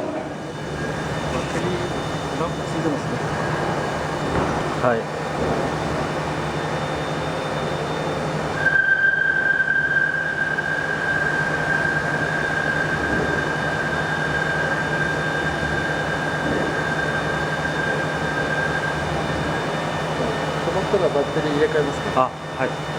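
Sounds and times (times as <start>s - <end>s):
high-pitched whine: 0.0s - 22.9s
machinery low hum: 0.0s - 22.9s.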